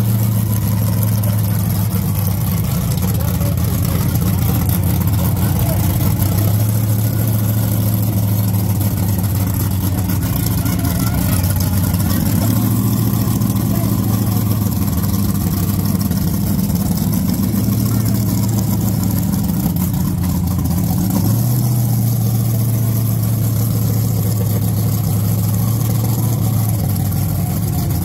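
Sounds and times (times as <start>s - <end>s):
drag car engine idling: 0.0s - 28.0s.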